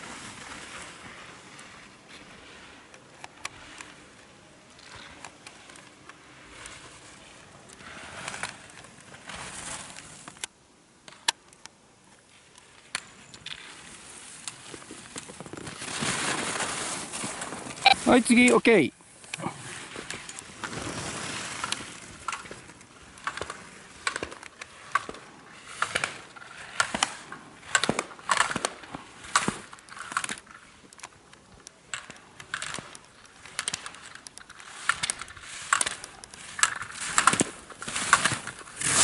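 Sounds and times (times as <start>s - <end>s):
ski edges scraping snow: 0.0s - 10.4s, 12.3s - 30.9s, 32.2s - 39.0s.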